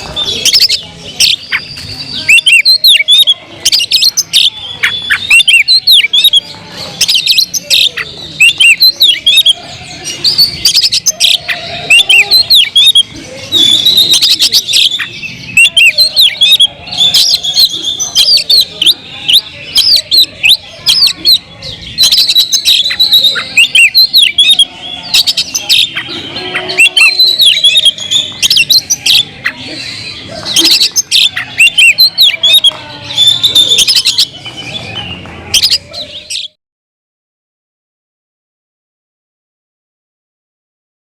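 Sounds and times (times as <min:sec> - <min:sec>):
bird singing chirps and whistles: 0:00.1 - 0:36.6.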